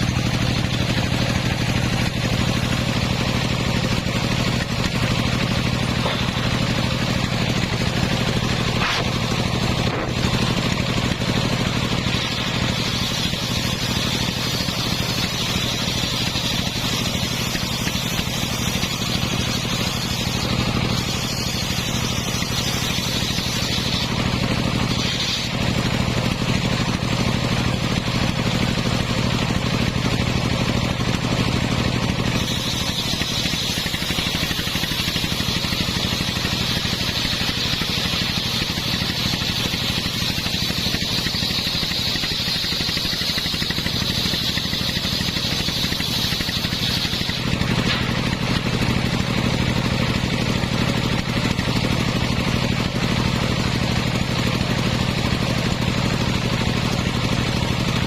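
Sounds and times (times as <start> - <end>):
engine-driven circular saw running: 0.0 - 58.0
saw blade whine cutting wood: 0.0 - 58.0.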